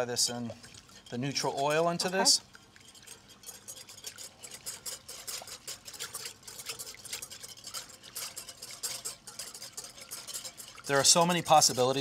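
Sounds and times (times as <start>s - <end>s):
whisk beating in glass bowl: 0.0s - 12.0s.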